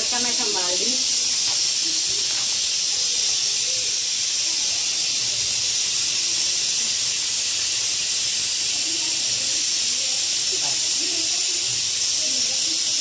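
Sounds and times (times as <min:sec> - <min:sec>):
steady loud hiss: 0:00.0 - 0:13.0.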